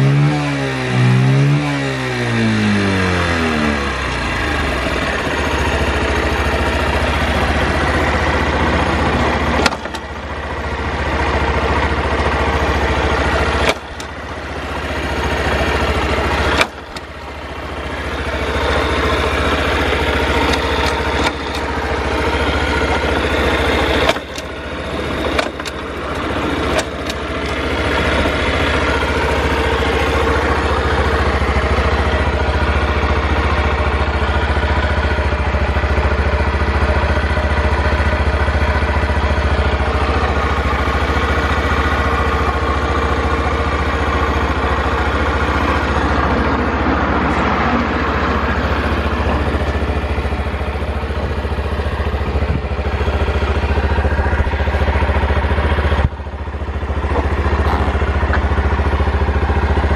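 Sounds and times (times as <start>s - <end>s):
small engine idling: 0.0s - 59.9s.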